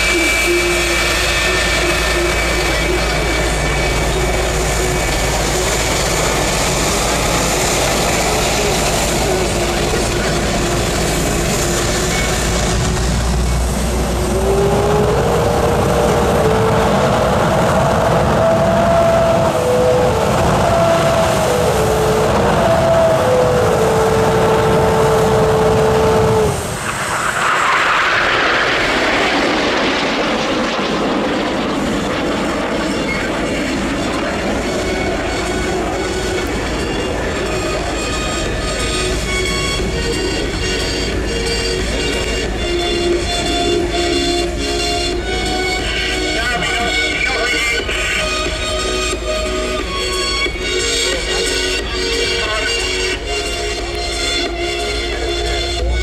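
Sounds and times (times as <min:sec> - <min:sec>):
jet engine running: 0:00.0 - 0:56.0
jet engine whine: 0:00.0 - 0:56.0.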